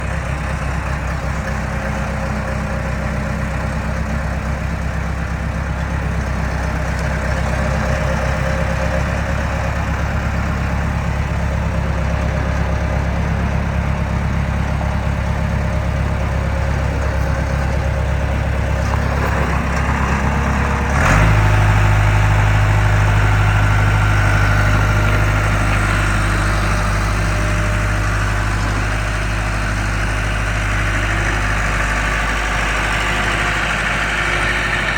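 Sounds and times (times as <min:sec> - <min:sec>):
skid steer diesel engine idling: 0:00.0 - 0:34.9.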